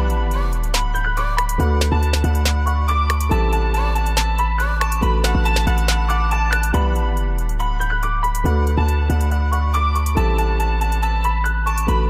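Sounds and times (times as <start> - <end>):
background music with ticking beat: 0.0 - 12.0.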